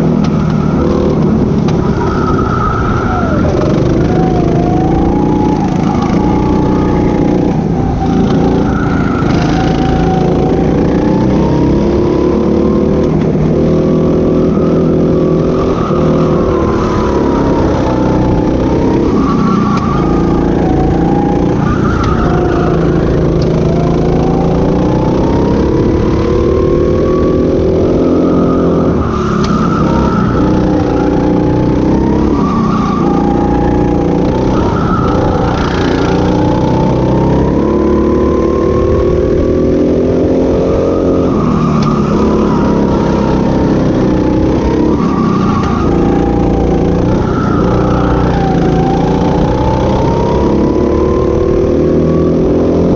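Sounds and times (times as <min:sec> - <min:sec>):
go-kart engine revving: 0:00.0 - 0:52.9.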